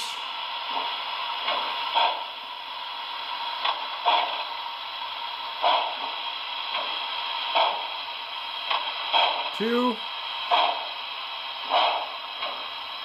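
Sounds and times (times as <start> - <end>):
model train steam chuffs: 0.0 - 13.0
steady hiss: 0.0 - 13.0.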